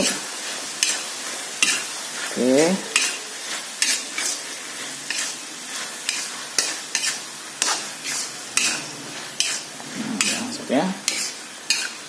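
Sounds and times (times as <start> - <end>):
food sizzling in a wok: 0.0 - 12.0
spatula scraping a wok: 0.0 - 12.0.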